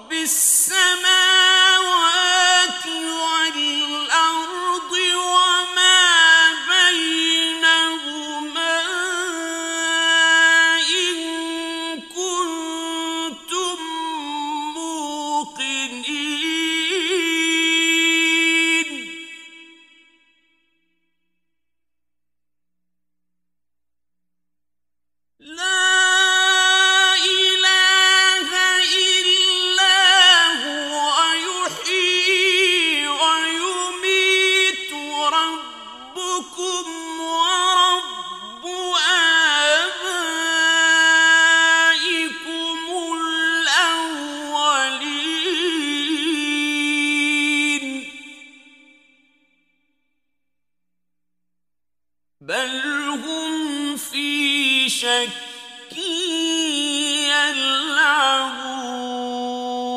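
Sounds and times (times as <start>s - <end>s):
man chanting melodically: 0.0s - 19.9s, 25.4s - 48.9s, 52.4s - 59.9s.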